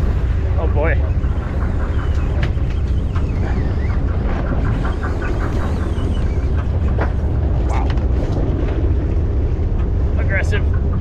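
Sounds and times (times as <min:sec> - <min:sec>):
low rumble of wind and boat: 0:00.0 - 0:11.0.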